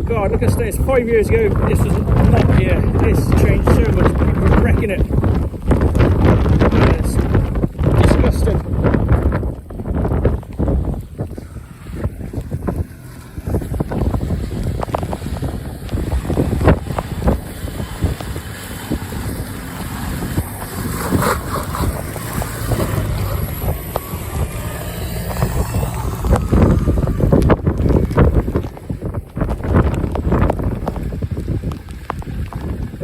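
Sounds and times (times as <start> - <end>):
engine humming: 0.0 - 33.0
wind buffeting microphone: 0.0 - 33.0.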